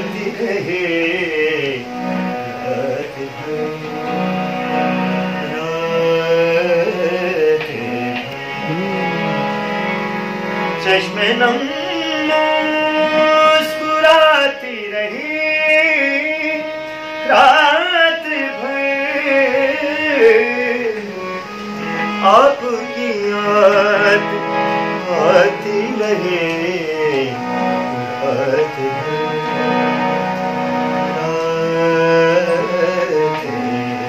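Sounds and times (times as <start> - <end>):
man singing: 0.0 - 4.4, 5.0 - 30.0, 31.0 - 34.0
harmonium sustained notes: 0.0 - 34.0.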